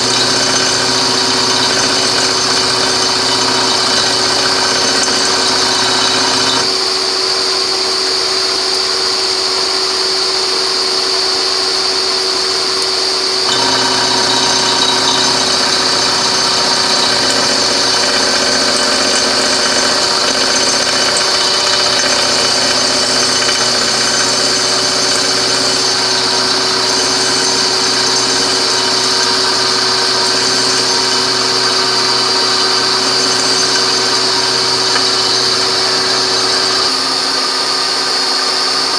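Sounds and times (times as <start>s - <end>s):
milling machine cutting metal: 0.0s - 38.9s.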